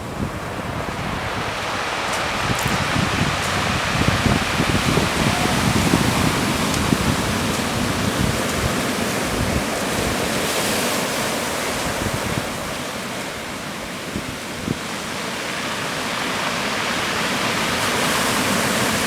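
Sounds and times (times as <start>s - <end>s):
ocean surf rushing: 0.0s - 19.0s
wind gusts on microphone: 0.0s - 19.0s.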